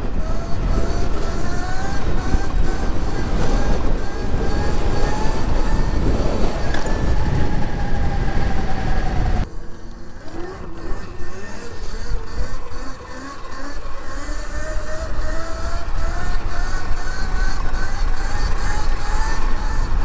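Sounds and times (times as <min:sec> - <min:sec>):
electric motor high whine: 0:00.0 - 0:20.0
wind noise: 0:00.0 - 0:20.0.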